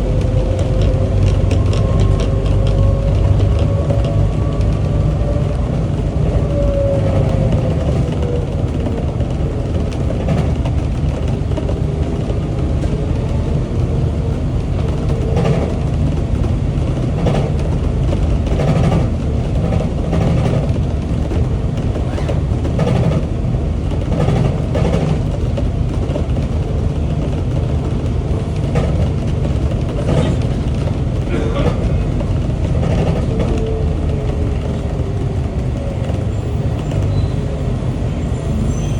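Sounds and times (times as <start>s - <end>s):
train clattering: 0.0s - 38.9s
train rumbling: 0.0s - 38.9s.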